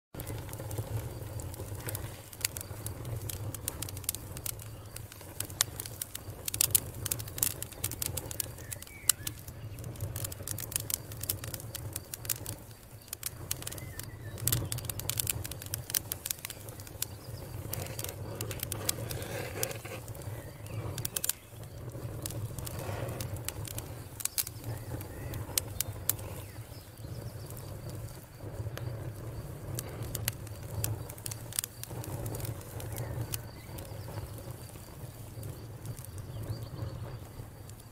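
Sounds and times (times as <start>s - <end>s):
campfire crackling and popping: 0.1s - 37.9s.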